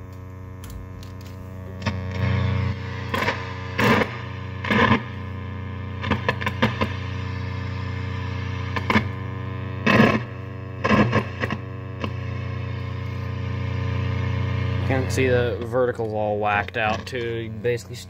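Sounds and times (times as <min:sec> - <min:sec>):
distorted speaker buzz: 0:00.0 - 0:18.0
loud crackling bursts: 0:00.0 - 0:18.0.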